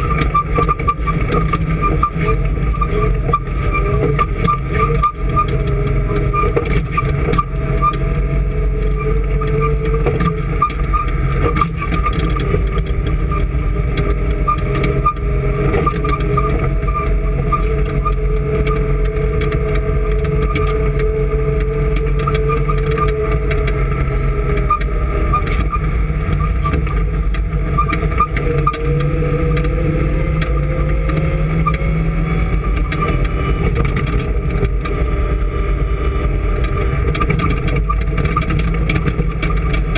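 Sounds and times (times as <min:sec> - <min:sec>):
engine running steadily: 0:00.0 - 0:39.9
high whine: 0:00.0 - 0:39.9.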